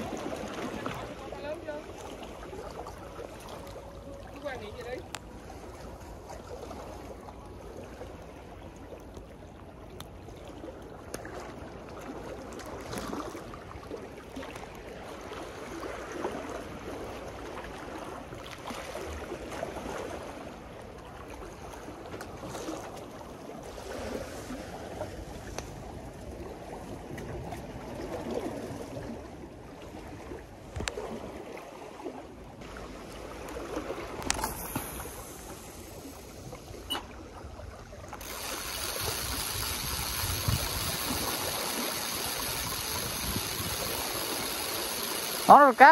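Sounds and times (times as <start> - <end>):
waves lapping against a wall: 0.0 - 45.9.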